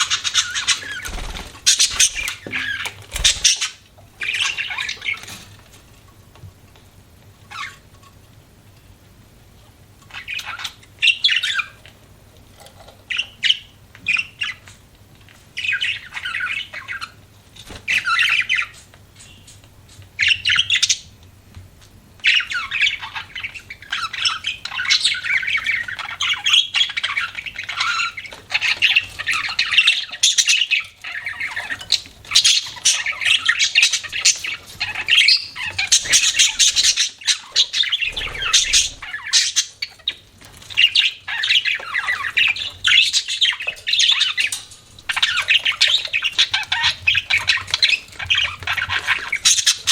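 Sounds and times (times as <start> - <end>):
budgerigars chirping and chattering: 0.0 - 5.8, 7.5 - 7.9, 10.0 - 11.9, 12.8 - 14.8, 15.6 - 21.1, 22.2 - 49.9.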